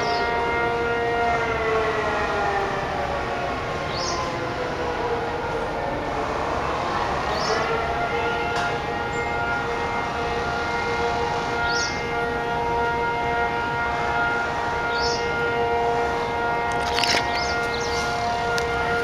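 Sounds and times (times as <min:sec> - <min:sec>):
air raid siren steady tone: 0:00.0 - 0:19.0.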